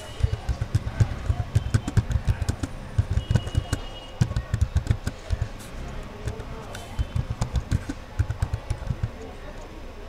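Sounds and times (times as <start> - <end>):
keyboard typing: 0.0 - 9.6.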